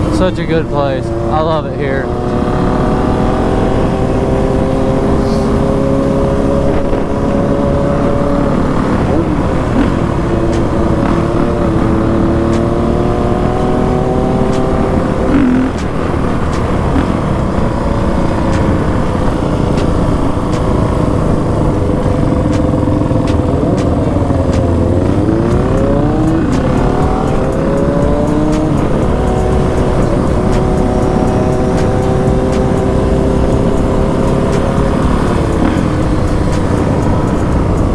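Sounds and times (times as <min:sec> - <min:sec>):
dirt bike engine running: 0:00.0 - 0:37.9.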